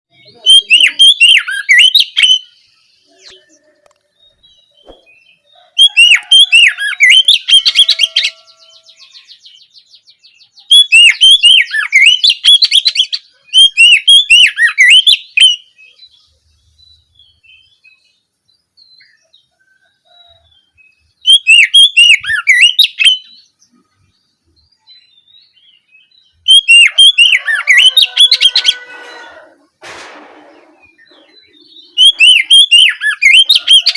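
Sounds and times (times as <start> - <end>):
bird singing high phrases: 0.1 - 29.5, 30.5 - 33.9.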